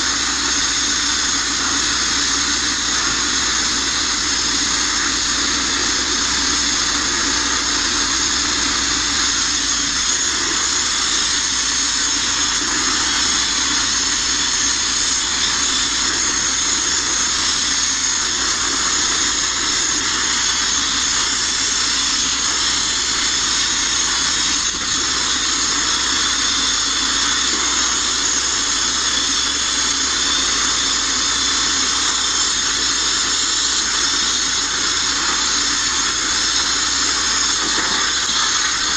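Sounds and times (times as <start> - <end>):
abrasive blasting nozzle hissing: 0.0 - 38.9.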